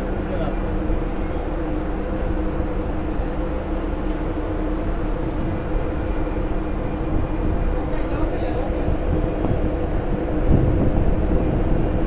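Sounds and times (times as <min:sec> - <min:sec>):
ship engines humming: 0:00.0 - 0:12.0.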